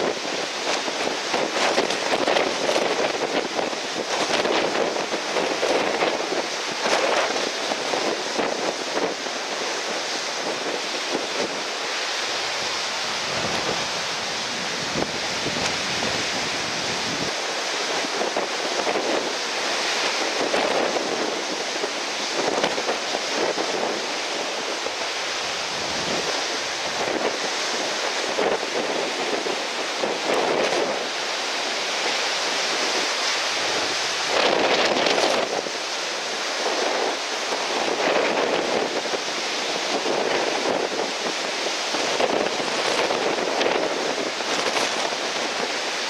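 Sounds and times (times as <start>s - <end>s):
breaking surf: 0.0s - 46.0s
wind buffeting the microphone: 0.0s - 46.0s.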